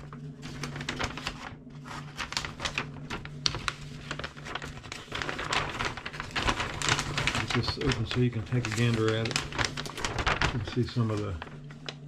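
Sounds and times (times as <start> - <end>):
low steady hum: 0.0 - 12.0
paper map rustling and crackling: 0.0 - 12.0.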